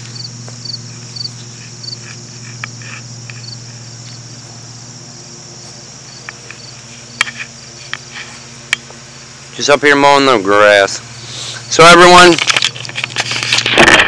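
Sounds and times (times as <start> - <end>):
crickets chirping: 0.0 - 14.0
high insect drone: 0.0 - 14.0.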